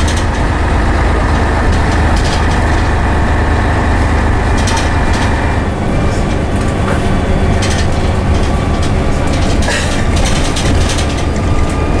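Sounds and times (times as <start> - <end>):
bus body rattling: 0.0 - 12.0
bus engine drone: 0.0 - 12.0.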